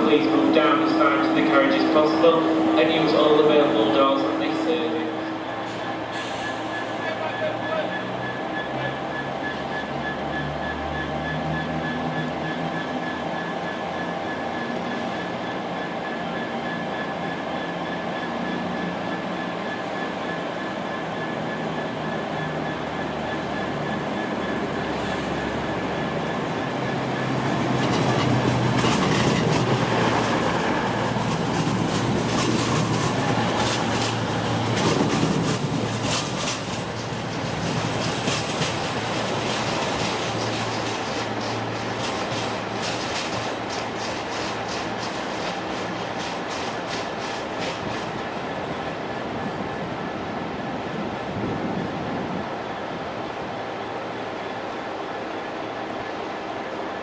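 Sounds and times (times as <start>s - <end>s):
train equipment hum and whine: 0.0s - 57.0s
train wheels rumbling on track: 0.0s - 57.0s.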